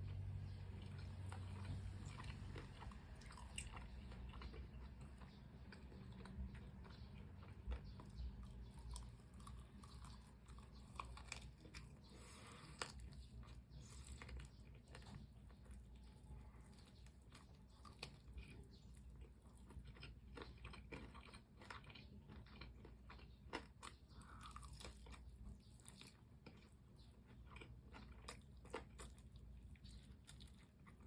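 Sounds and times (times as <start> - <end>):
chewing crispy fried chicken: 0.0 - 31.0.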